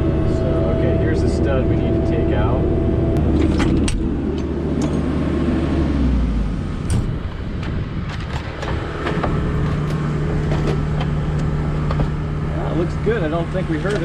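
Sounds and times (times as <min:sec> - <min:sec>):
demolition machine engine running: 0:00.0 - 0:14.0.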